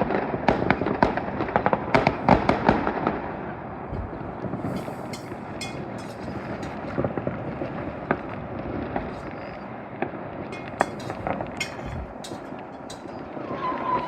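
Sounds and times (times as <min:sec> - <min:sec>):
distant fireworks rumbling: 0:00.0 - 0:14.0
fireworks crackling hiss: 0:00.0 - 0:14.0
fireworks sharp pops: 0:00.0 - 0:14.0.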